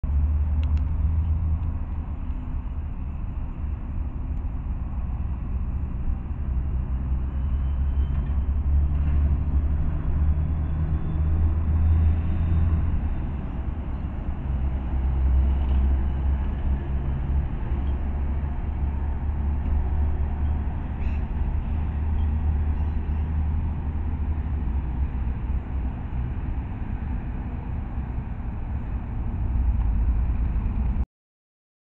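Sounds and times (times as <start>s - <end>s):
diesel truck driving past: 0.0s - 31.0s
road traffic rumbling: 0.0s - 31.0s.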